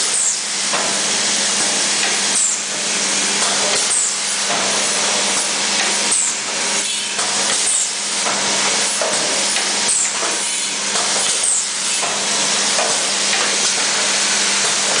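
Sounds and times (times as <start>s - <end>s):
air hissing in cycles: 0.0s - 15.0s.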